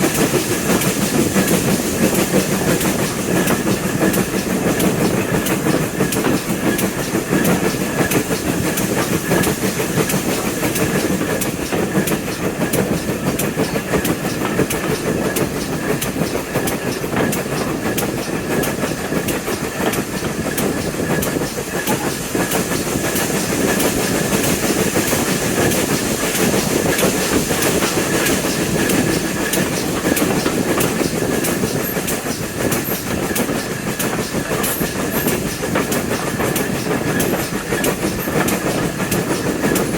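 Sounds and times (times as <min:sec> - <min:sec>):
train rumble: 0:00.0 - 0:39.9
wheels clicking on track: 0:00.0 - 0:39.9.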